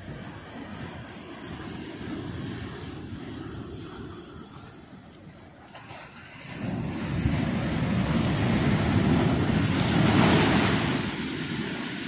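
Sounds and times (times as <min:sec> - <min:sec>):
ocean wave breaking over rocks: 0:00.0 - 0:12.0.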